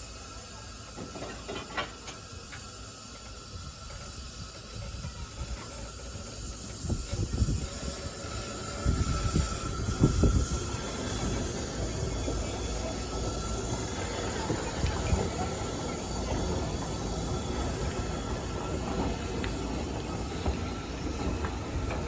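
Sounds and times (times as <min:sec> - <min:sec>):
locomotive low rumble: 0:00.0 - 0:22.0
steam hissing: 0:00.0 - 0:22.0.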